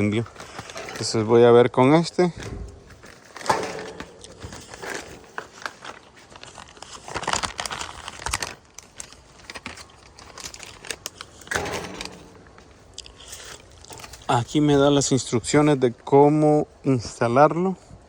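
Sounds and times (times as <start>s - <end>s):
packaging crinkling and rustling: 0.0s - 15.7s.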